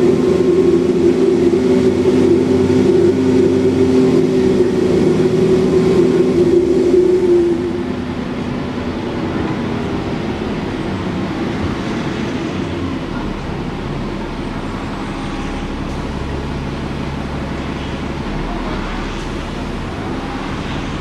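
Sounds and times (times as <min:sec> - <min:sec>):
bus diesel engine running: 0:00.0 - 0:21.0
road and body rumble: 0:00.0 - 0:21.0.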